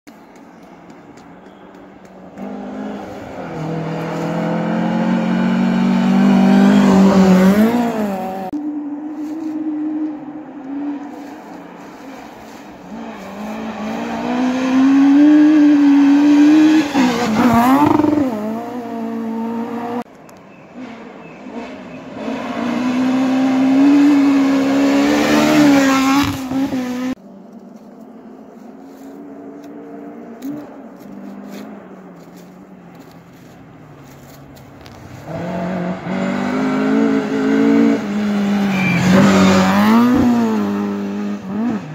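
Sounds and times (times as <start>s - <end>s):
rally car engine passing by: 2.3s - 20.1s, 20.7s - 27.2s, 28.9s - 41.9s.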